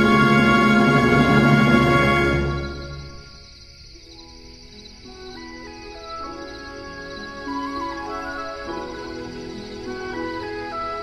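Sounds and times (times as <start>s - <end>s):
ambient music with held notes: 0.0s - 11.0s.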